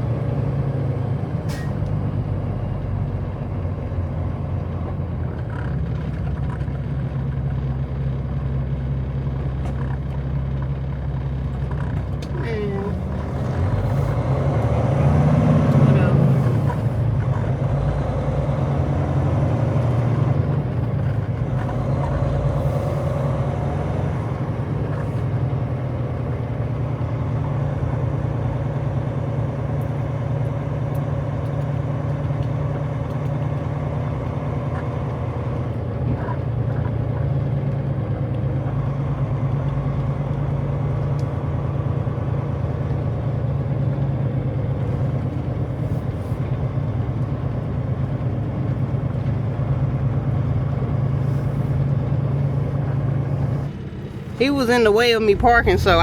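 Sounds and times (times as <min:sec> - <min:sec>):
diesel truck engine drone: 0:00.0 - 0:56.0.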